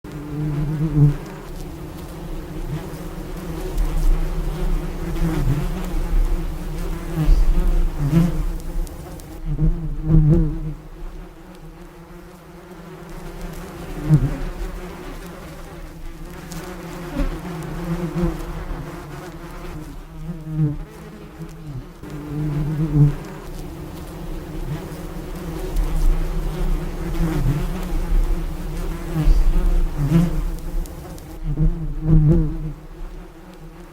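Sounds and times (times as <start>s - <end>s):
bee buzzing in flight: 0.0s - 33.9s.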